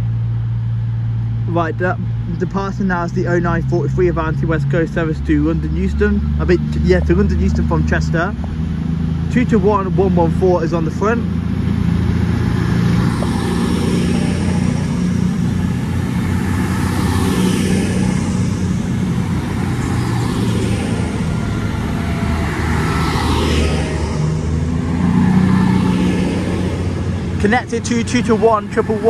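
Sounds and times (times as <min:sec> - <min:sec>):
diesel train engines running: 0:00.0 - 0:29.0
high whine of passing cars: 0:00.0 - 0:29.0.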